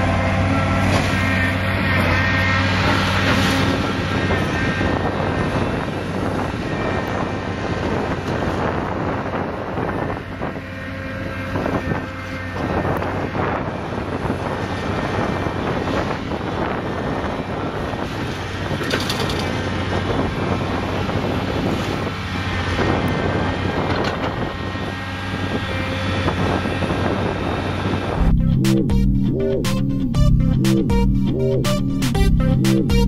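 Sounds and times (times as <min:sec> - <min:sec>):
wind buffeting microphone: 0:00.0 - 0:28.6
excavator diesel engine running: 0:00.0 - 0:33.0.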